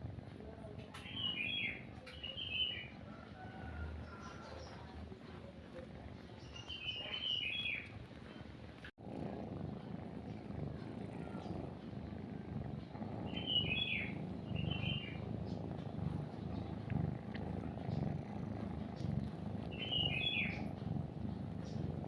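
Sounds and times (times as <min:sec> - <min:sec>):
cat purring: 0:00.0 - 0:22.0
songbirds chirping: 0:00.2 - 0:22.0.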